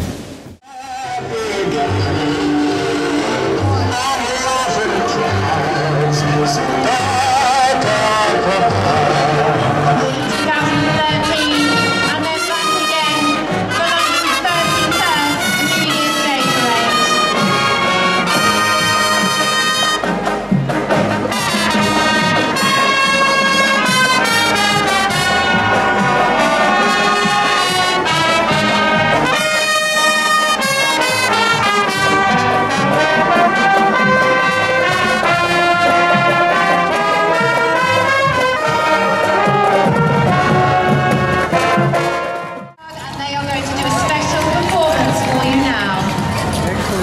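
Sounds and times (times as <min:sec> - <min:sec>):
marching band playing: 0:00.0 - 0:47.0.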